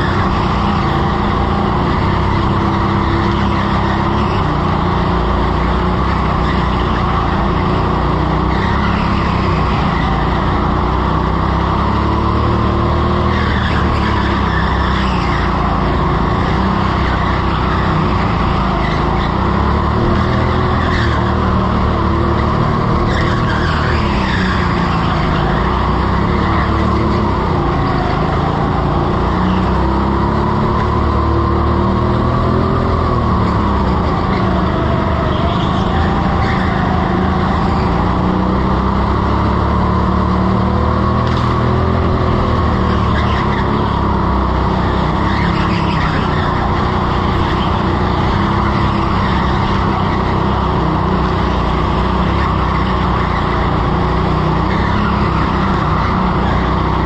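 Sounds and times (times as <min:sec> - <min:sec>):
tyres squealing: 0:00.0 - 0:40.6, 0:41.2 - 0:57.0
go-kart motor: 0:00.0 - 0:57.0.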